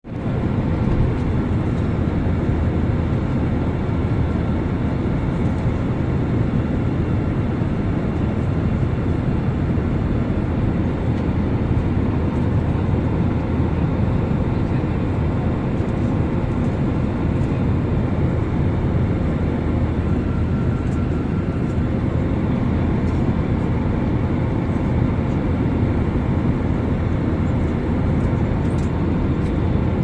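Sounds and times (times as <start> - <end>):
jet engines rumbling: 0.1 - 30.0
faint steady whine: 0.2 - 30.0.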